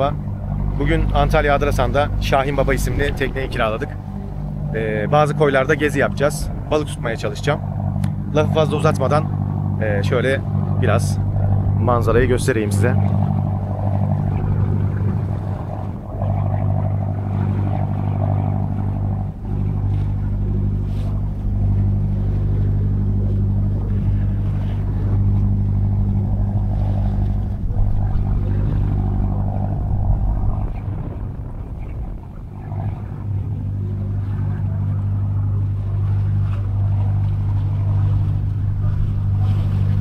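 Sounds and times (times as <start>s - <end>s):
motor boat engine droning: 0.0s - 40.0s.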